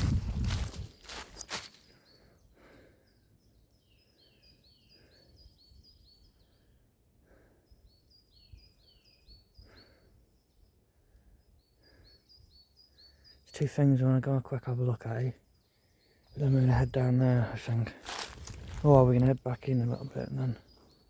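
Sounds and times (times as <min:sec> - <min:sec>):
songbird singing faintly: 0:00.0 - 0:21.0.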